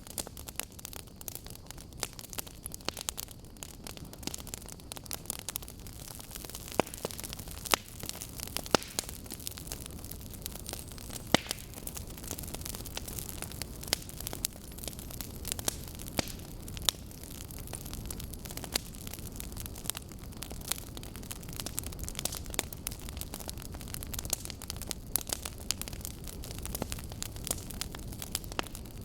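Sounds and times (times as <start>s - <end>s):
logs crackling with sharp pops: 0.0s - 29.0s
low rumble of flames: 0.0s - 29.0s.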